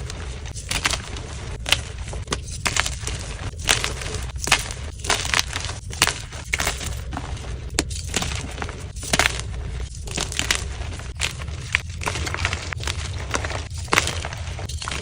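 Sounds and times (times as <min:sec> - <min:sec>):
chalk crunching and crackling: 0:00.0 - 0:15.0
steady low hum: 0:00.0 - 0:15.0.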